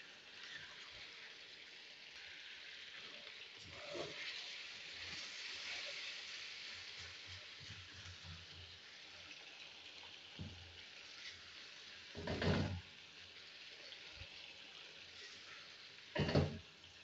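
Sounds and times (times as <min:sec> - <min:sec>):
gravy sizzling in metal pan: 0:00.0 - 0:17.0.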